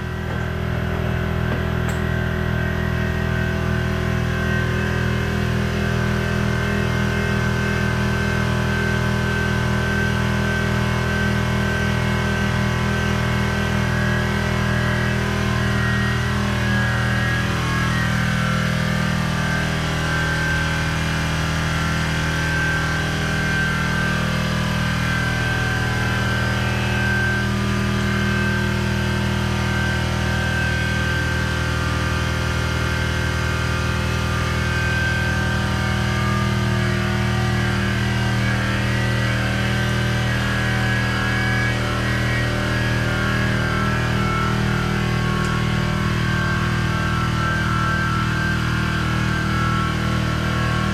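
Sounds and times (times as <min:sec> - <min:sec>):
air compressor running: 0:00.0 - 0:50.9.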